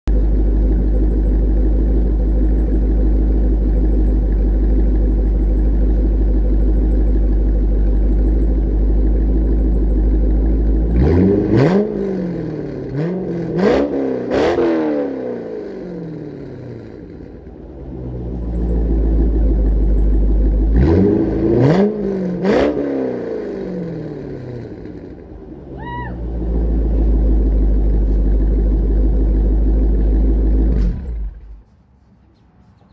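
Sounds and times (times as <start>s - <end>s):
car engine idling and revving: 0.1s - 31.7s.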